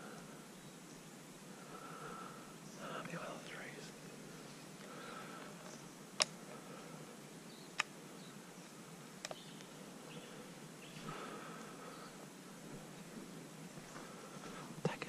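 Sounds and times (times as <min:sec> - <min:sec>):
bushland ambience: 0:00.0 - 0:15.0.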